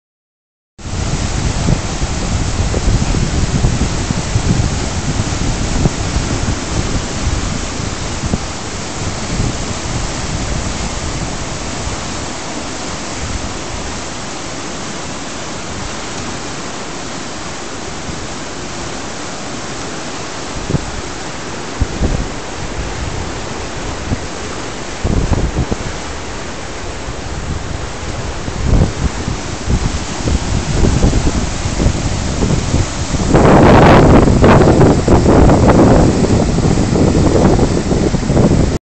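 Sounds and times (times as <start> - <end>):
river water rushing through rapids: 0.8 - 38.8.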